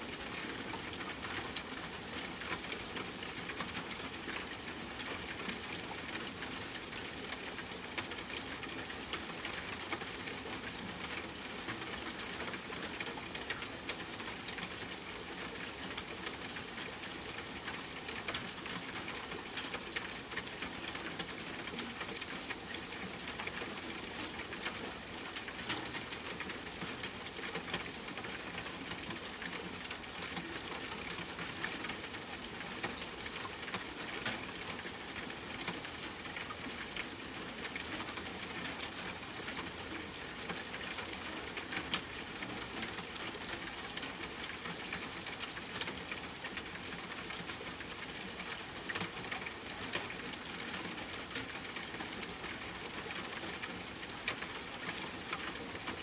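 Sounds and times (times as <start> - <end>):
rain falling: 0.0 - 56.0
raindrops ticking on a surface: 0.0 - 56.0.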